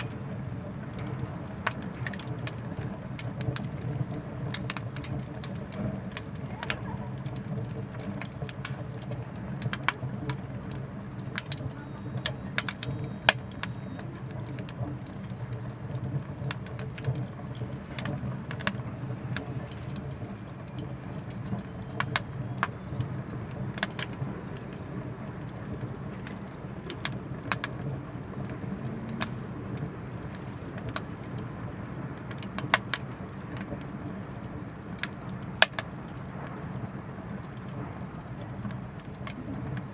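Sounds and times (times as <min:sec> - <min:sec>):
fire crackles and pops: 0:00.0 - 0:39.9
wood fire rushing: 0:00.0 - 0:39.9.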